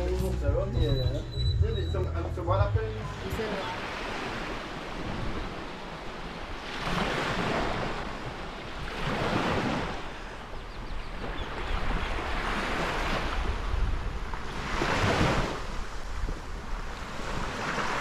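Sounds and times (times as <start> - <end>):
wind rumbling on microphone: 0.0 - 18.0
small waves washing on sand: 3.2 - 18.0.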